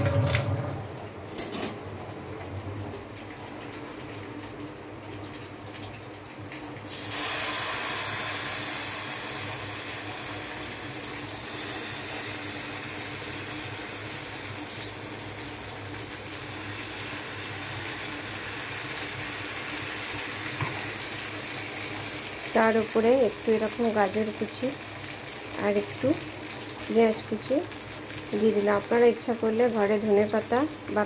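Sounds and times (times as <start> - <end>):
batter sizzling in hot oil: 3.6 - 31.0.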